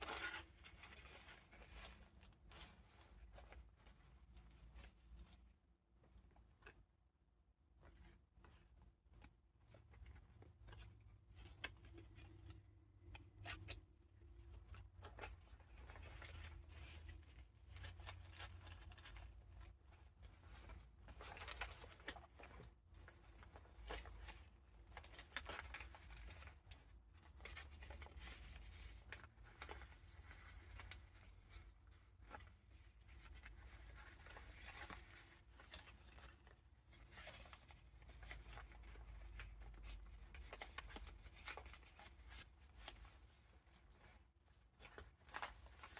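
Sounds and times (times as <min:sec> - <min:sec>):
paper rustling and crinkling: 0:00.0 - 0:05.5, 0:07.8 - 0:45.9.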